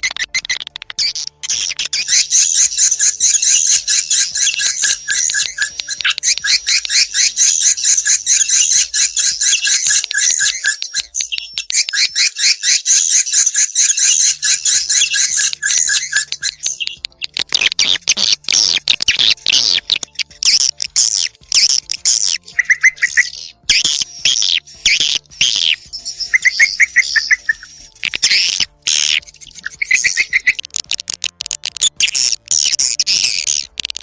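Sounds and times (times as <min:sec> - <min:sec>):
swiftlet chirping trills: 0:00.0 - 0:34.0.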